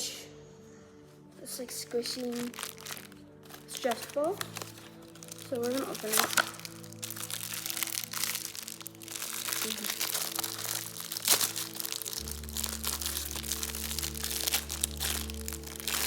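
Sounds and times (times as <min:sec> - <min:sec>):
packaging crinkling: 0:02.0 - 0:16.0
background music with bass: 0:03.1 - 0:16.0.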